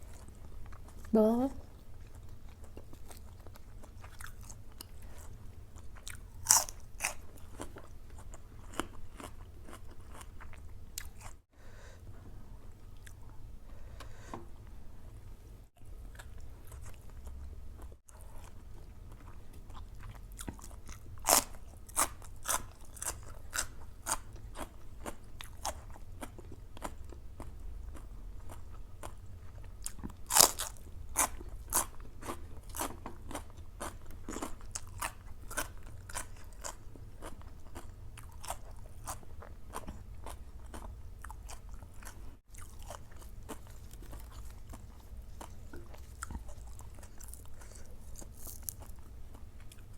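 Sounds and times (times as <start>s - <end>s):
person chewing crunchy food: 0.0s - 11.4s, 15.8s - 49.9s.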